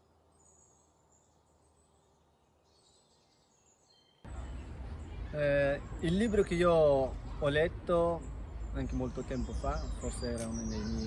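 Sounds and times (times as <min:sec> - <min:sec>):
faint high bird chirps: 0:00.0 - 0:11.0
outdoor background noise: 0:00.0 - 0:11.0.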